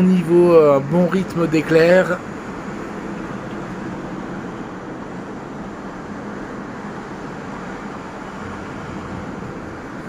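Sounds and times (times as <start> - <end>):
distant road traffic: 0.0 - 10.0.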